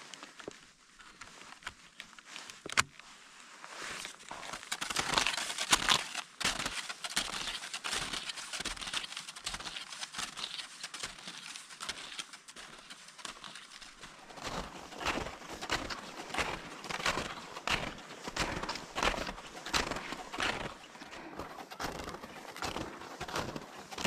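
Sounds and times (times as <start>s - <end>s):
snowshoe footsteps crunching in snow: 0.0s - 24.0s.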